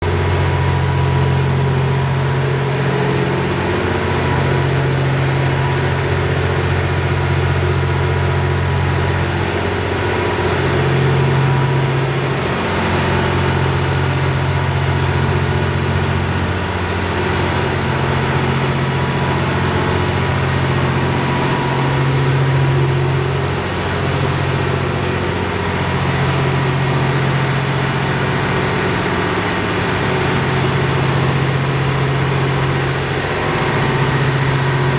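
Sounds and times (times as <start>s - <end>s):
train diesel engines idling: 0.0s - 34.9s.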